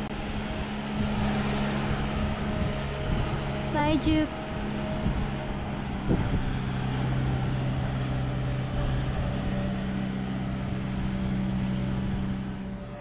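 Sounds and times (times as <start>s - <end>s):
engine low drone: 0.0s - 13.0s.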